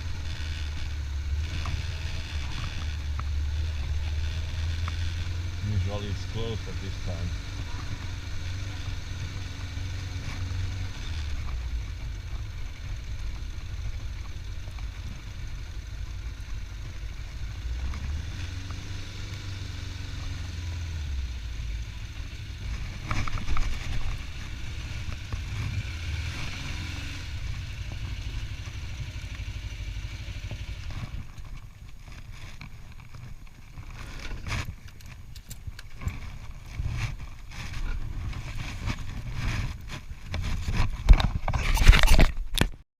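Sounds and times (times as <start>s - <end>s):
motorcycle engine running: 0.0s - 42.8s.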